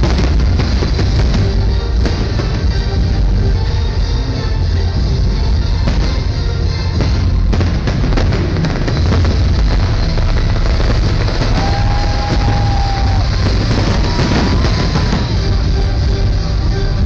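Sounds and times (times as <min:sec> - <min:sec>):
fireworks bursting and crackling: 0:00.0 - 0:17.0
electronic dance music: 0:00.8 - 0:17.0.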